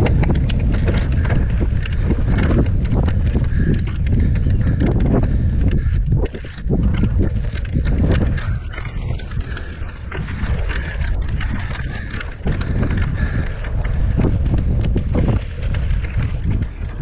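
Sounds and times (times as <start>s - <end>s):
bike frame knocks and clicks: 0.0s - 17.0s
mountain bike rattling over rocks: 0.0s - 17.0s
wind rumble on microphone: 0.0s - 17.0s.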